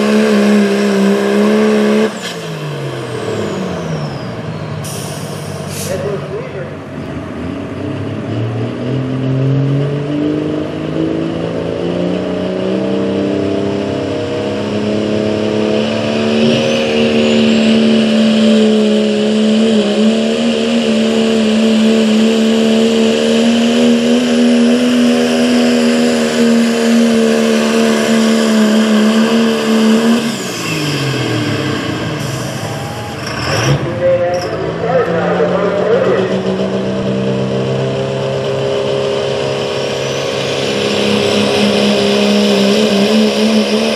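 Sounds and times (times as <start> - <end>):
diesel truck engine at full throttle: 0.0 - 43.9.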